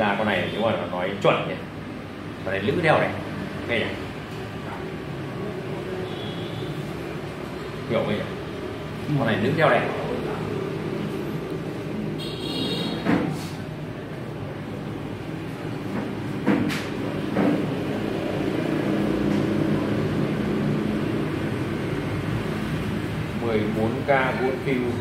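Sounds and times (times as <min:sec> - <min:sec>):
low hum of vehicle engines: 0:00.0 - 0:25.0.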